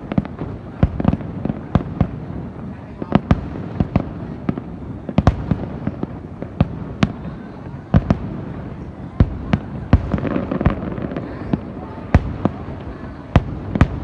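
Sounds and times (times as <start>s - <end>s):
firework crackle: 0.0s - 14.0s
rumble of firework bursts: 0.0s - 14.0s.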